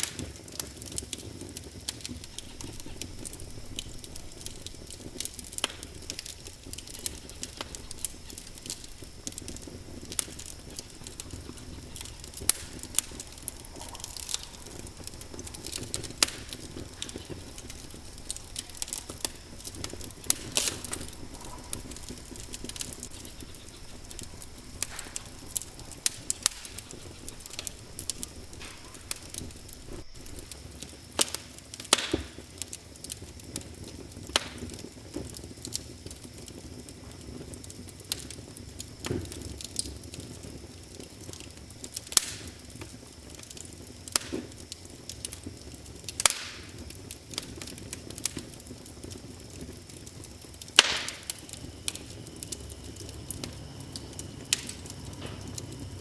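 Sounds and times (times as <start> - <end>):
fire burning hiss: 0.0 - 56.0
wood fire pops and snaps: 0.0 - 56.0.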